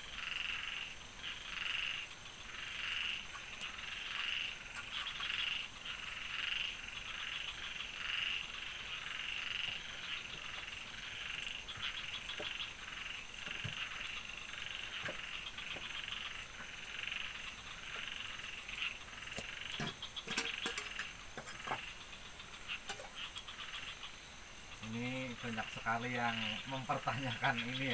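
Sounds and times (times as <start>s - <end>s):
frogs croaking: 0.0s - 27.9s.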